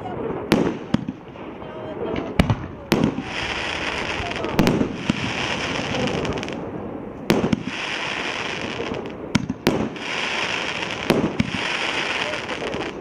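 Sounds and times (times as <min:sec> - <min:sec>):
fireworks crackling hiss: 0:00.0 - 0:13.0
fireworks sharp reports: 0:00.0 - 0:13.0.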